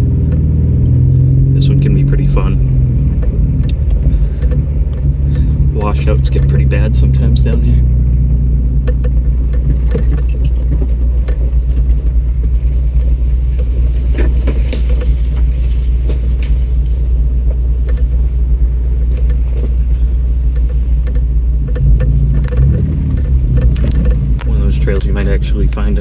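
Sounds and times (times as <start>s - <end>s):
off-road vehicle engine rumbling: 0.0s - 26.0s
vehicle knocks and rattles: 0.0s - 26.0s.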